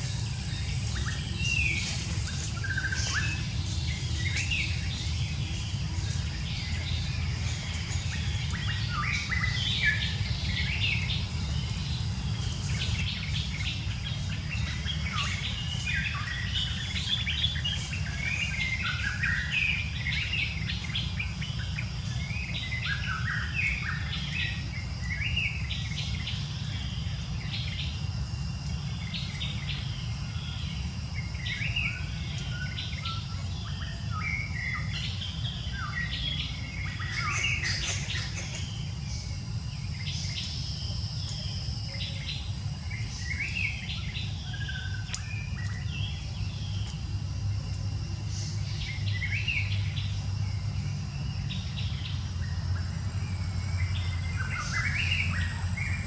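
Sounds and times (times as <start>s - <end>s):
birds chirping: 0.0s - 56.0s
faint insect drone: 0.0s - 56.0s
low outdoor rumble: 0.0s - 56.0s.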